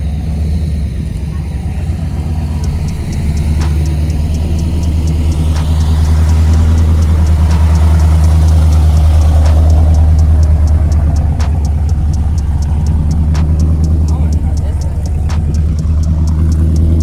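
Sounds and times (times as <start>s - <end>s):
car engine idling: 0.0s - 17.0s
faint high ticking: 0.0s - 17.0s.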